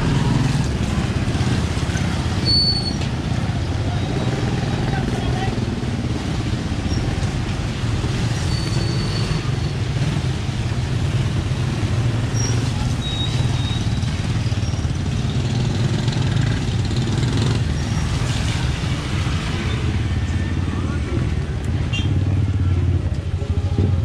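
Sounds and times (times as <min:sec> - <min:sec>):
traffic engine rumble: 0:00.0 - 0:24.0.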